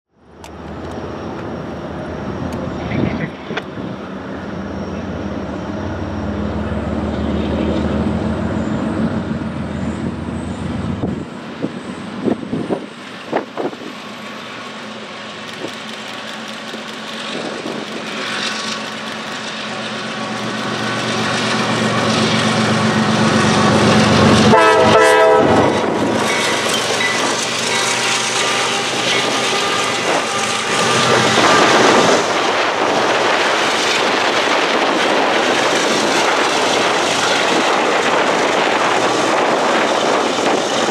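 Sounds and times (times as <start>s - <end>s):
diesel locomotives passing: 0.2s - 40.9s
freight cars rolling on rails: 0.3s - 40.9s.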